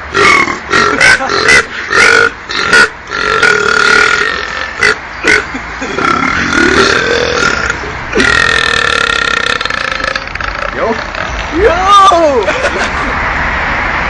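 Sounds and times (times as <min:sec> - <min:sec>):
man belching: 0:00.1 - 0:11.4.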